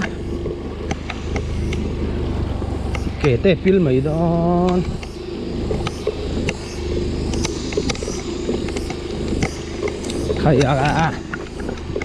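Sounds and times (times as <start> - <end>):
motorcycle engine running: 0.0 - 12.0
motorcycle knocks and rattles: 0.0 - 12.0.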